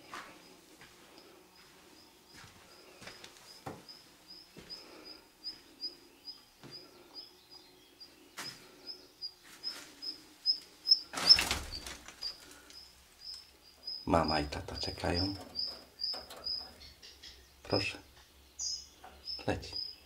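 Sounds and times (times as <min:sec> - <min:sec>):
bird chirping: 0:01.6 - 0:20.0.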